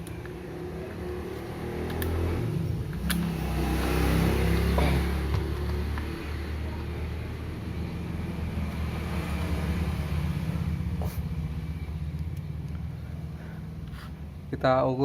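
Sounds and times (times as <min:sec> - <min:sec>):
vehicle engine rumbling: 0:00.0 - 0:14.7.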